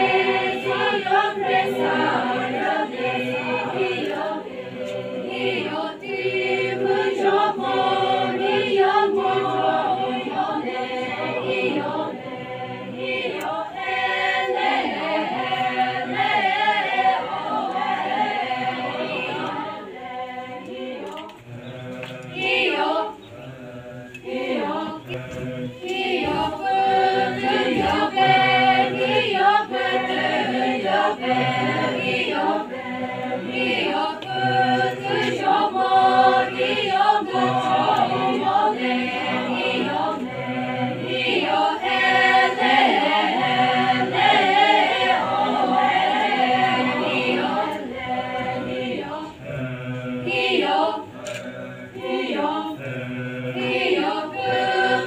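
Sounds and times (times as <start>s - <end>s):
group singing unaccompanied: 0.0s - 55.0s.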